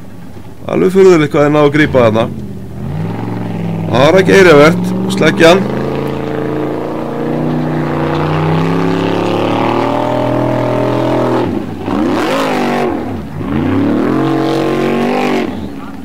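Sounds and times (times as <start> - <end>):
buggy engine revving hard: 1.7 - 16.0.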